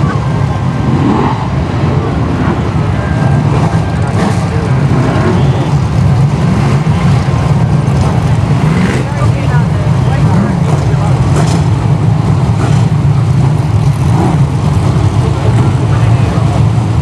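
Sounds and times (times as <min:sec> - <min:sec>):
stock car engines rumbling: 0:00.0 - 0:17.0.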